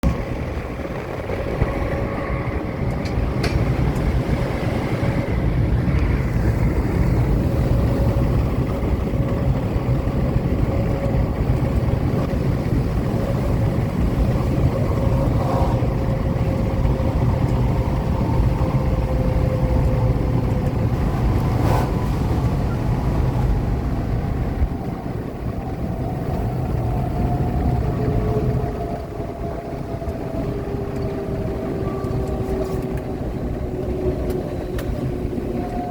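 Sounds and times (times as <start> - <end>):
train rumbling past: 0.0 - 35.9
train whine: 0.0 - 35.9.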